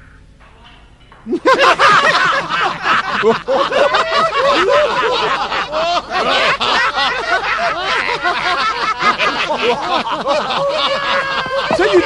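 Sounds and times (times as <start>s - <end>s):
crowd chattering and laughing: 1.2s - 12.0s.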